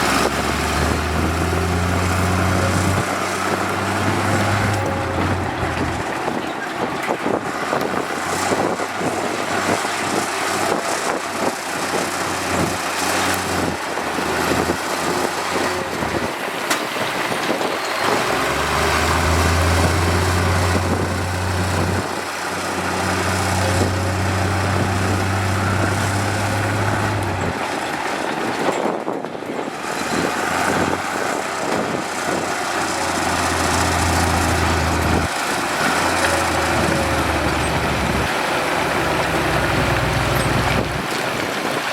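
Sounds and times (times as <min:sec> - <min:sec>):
construction machinery engines running: 0:00.0 - 0:41.9.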